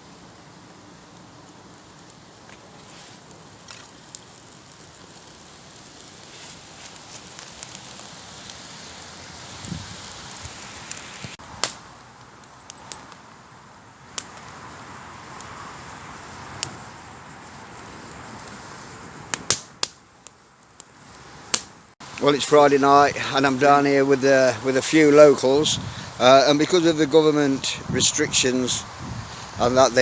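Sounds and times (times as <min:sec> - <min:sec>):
fire pops: 0:00.0 - 0:22.7, 0:24.8 - 0:30.0
campfire crackling: 0:00.0 - 0:30.0.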